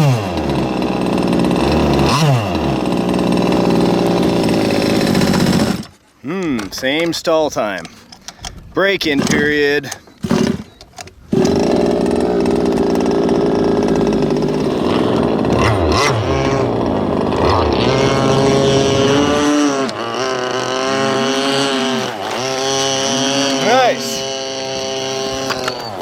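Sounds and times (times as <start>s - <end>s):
small two-stroke engine buzzing: 0.0s - 6.0s, 10.2s - 26.0s.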